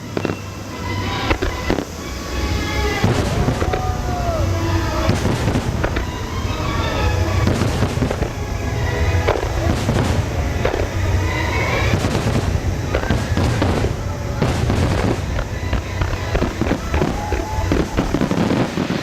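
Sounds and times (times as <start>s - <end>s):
fireworks bangs and crackling: 0.0s - 19.0s
low rumble: 0.0s - 19.0s.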